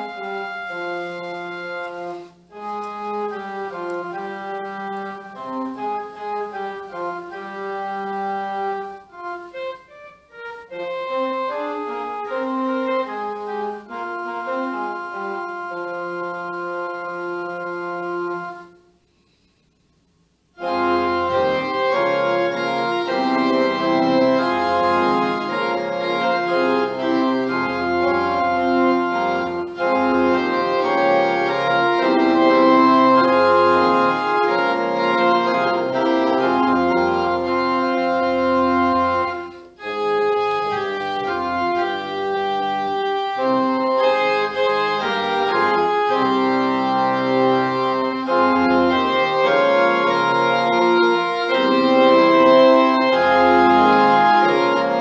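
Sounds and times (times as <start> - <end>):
pipe organ playing held chords: 0.0 - 19.5, 20.1 - 55.0.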